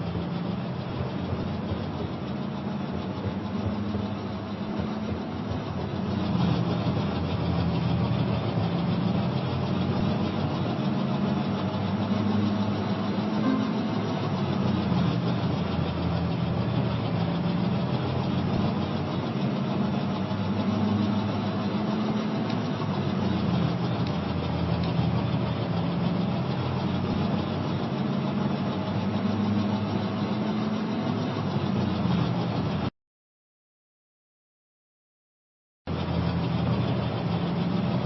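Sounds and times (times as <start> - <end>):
diesel locomotive engine running: 0.0 - 32.9, 35.9 - 38.0
faint steady whine: 0.0 - 32.9.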